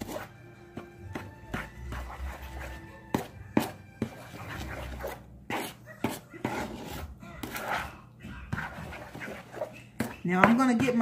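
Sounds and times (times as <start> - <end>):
spoon stirring wet mixture: 0.0 - 11.0.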